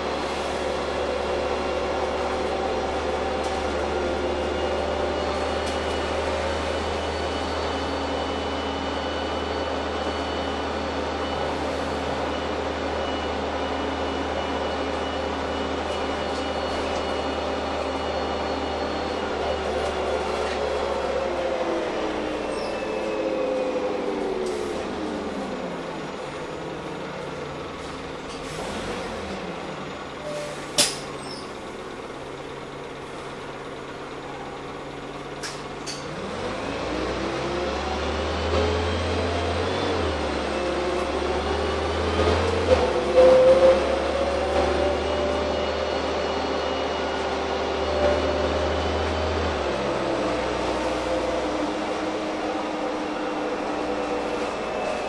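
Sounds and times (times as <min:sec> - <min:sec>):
bus accelerating with whine: 0:00.0 - 0:55.0
bus engine idling: 0:00.0 - 0:55.0.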